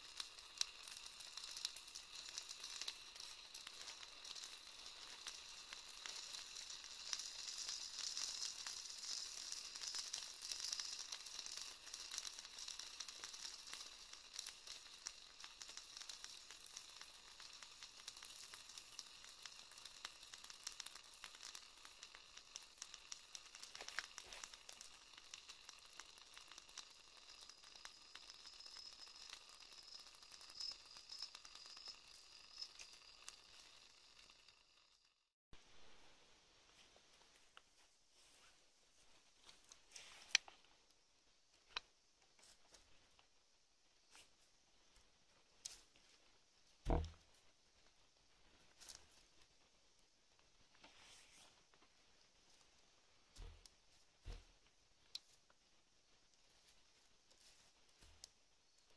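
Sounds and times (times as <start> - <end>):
campfire crackling and hissing: 0.0 - 58.9.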